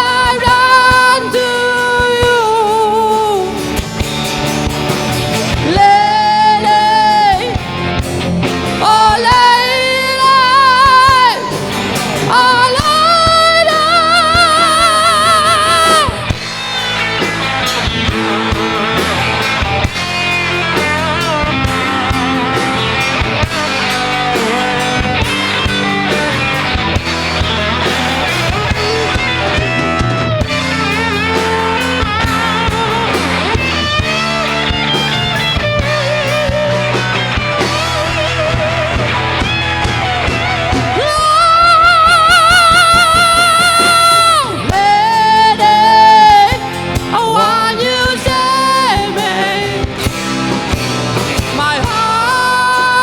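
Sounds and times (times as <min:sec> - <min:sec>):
bass and drums: 0:00.0 - 0:53.0
lead guitar: 0:00.0 - 0:53.0.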